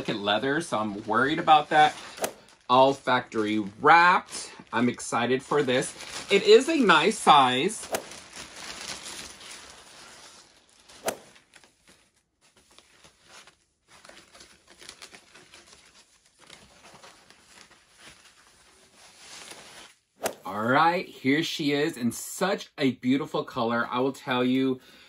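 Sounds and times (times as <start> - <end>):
plastic and tissue paper crinkling: 0.0 - 20.2.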